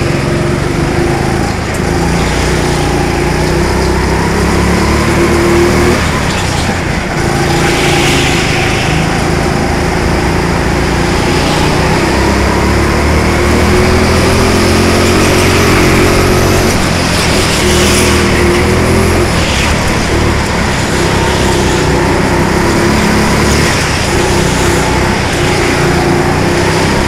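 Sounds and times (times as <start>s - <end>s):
go-kart engine running hard: 0.0s - 27.0s.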